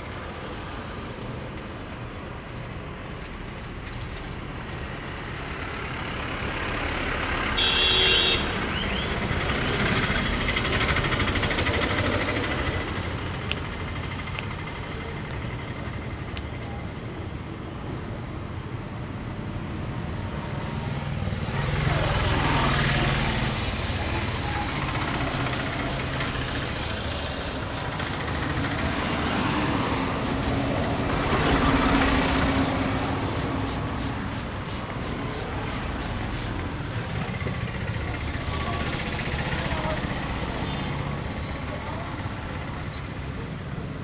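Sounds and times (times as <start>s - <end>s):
motor vehicles passing: 0.0s - 17.0s, 20.0s - 44.0s.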